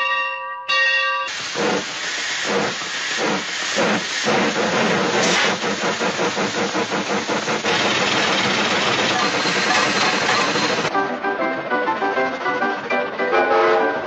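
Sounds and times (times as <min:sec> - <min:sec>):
steam locomotive chugging: 0:01.3 - 0:14.0.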